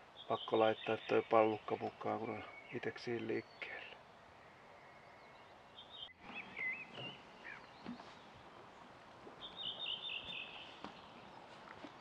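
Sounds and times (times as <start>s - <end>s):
faint outdoor hush: 0.0s - 12.0s
songbirds singing: 0.0s - 12.0s.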